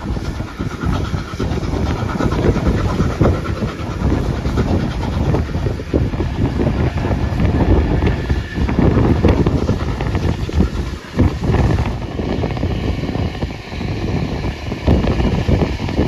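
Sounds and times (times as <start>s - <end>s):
train rolling at speed: 0.0s - 16.0s
wind buffeting a microphone: 0.0s - 16.0s.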